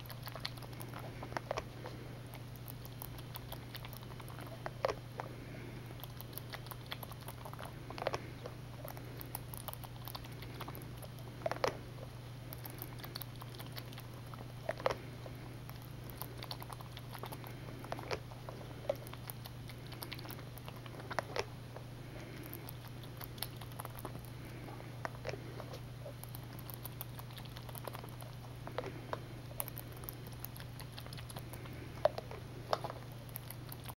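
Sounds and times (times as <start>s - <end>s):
rabbit sucking from bottle: 0.0s - 34.0s.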